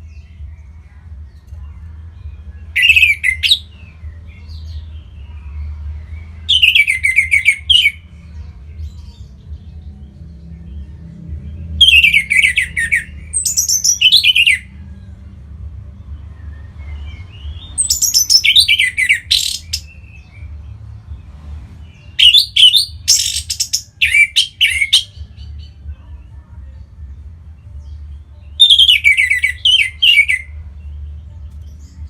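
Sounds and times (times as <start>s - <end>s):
thrush singing: 0.0s - 32.0s.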